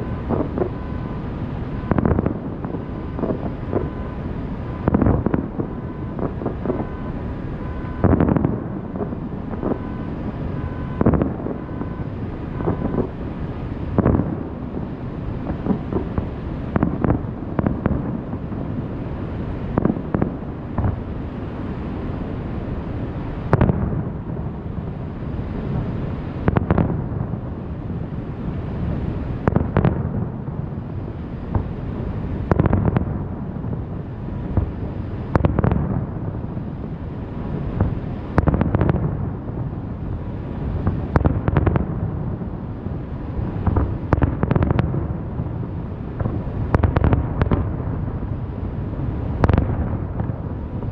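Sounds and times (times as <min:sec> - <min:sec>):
fireworks booming: 0:00.0 - 0:50.9.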